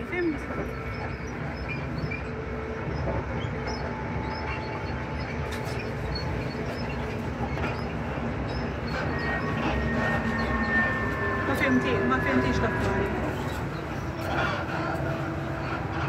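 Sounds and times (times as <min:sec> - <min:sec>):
faint hum: 0:00.0 - 0:16.0
train wheels rumbling on track: 0:00.0 - 0:16.0.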